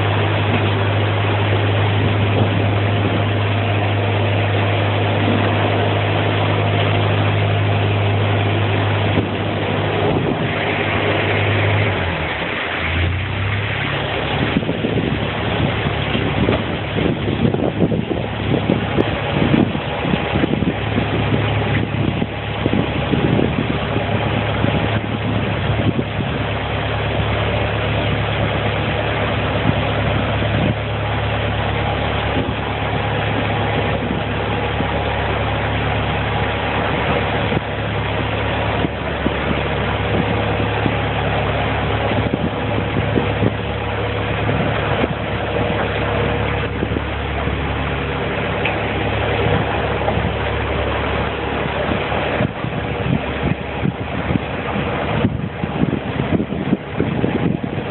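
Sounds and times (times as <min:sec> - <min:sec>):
boat engine idling: 0:00.0 - 0:57.9.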